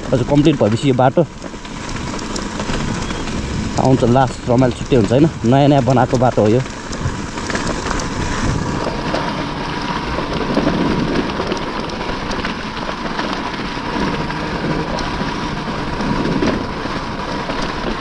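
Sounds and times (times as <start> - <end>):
dirt bike engine: 0.0 - 18.0
wind rush on microphone: 0.0 - 18.0.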